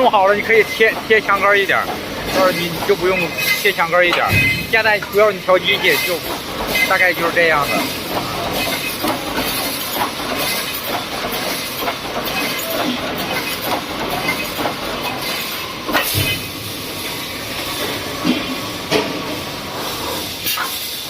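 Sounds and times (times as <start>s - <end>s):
welding machine hiss and clatter: 0.0s - 21.0s.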